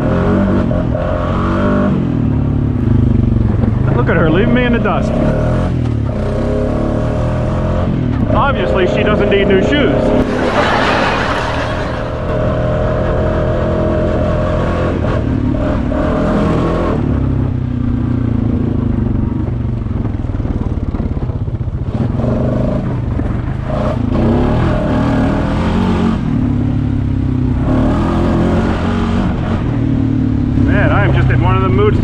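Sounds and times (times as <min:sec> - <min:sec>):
atv engine revving: 0:00.0 - 0:11.0, 0:11.7 - 0:32.0.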